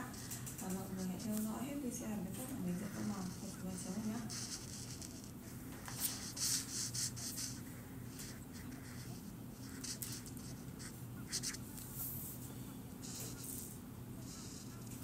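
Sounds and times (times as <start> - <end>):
marker rubbing on paper: 0.0 - 1.6, 2.6 - 12.4, 13.0 - 15.0
faint low hum: 0.0 - 15.0.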